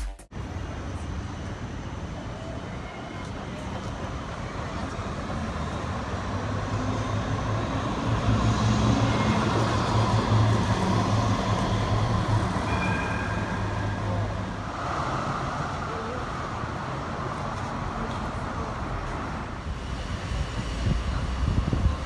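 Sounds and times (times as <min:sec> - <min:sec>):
tram electric hum: 0:00.1 - 0:22.0
street traffic: 0:00.2 - 0:22.0.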